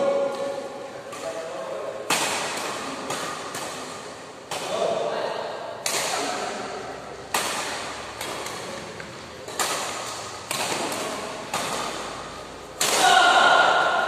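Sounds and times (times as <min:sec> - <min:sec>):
rackets smacking shuttlecock: 0:00.1 - 0:04.9, 0:05.8 - 0:14.0.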